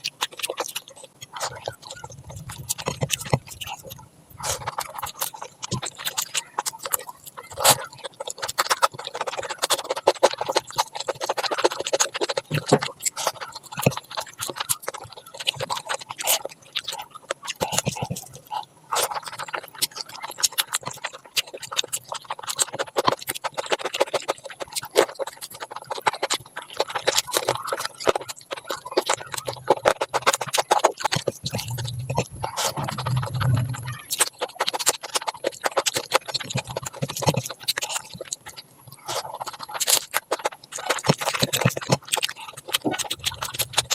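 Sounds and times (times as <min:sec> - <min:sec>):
mouth clicks: 0:00.0 - 0:43.9
wet chewing and smacking: 0:00.0 - 0:43.9.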